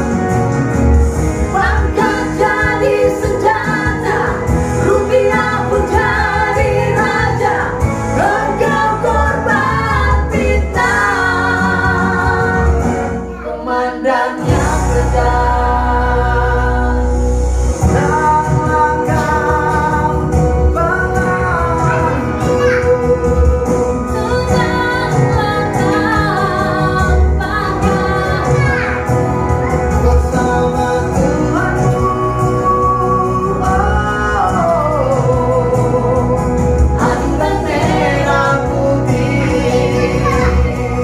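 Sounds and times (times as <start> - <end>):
instrumental backing with low bass: 0.0 - 41.0
man and woman singing a duet: 1.4 - 41.0.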